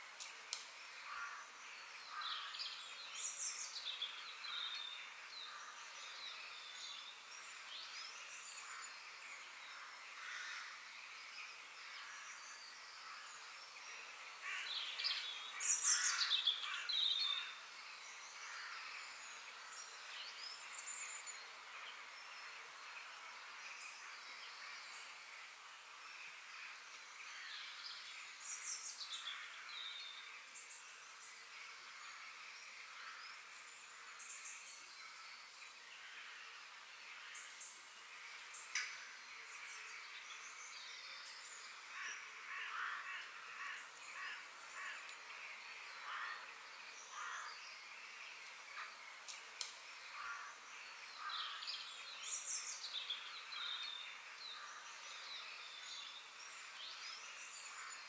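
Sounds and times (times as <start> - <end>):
faint outdoor hiss: 0.0 - 58.0.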